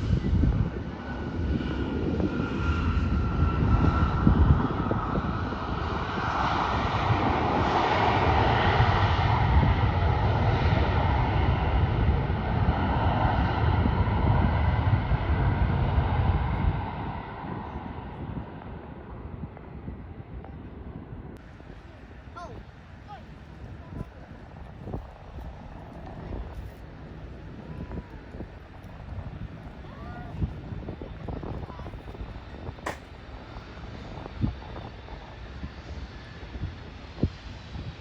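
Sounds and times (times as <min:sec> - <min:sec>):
jet airliner passing by: 0:00.0 - 0:38.0.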